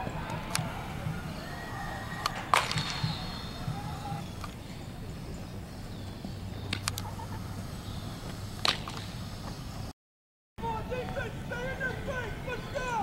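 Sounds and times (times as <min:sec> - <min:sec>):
outdoor background noise: 0:00.0 - 0:10.0, 0:10.6 - 0:13.0.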